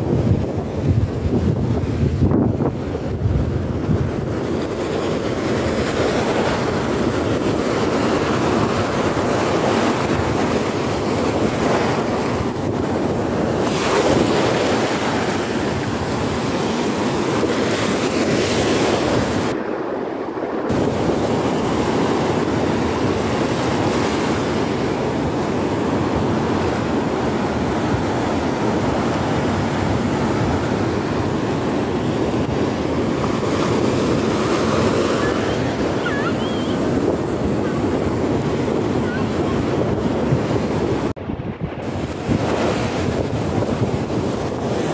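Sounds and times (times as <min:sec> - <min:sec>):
ocean surf breaking: 0:00.0 - 0:44.9
wind buffeting microphone: 0:00.0 - 0:44.9.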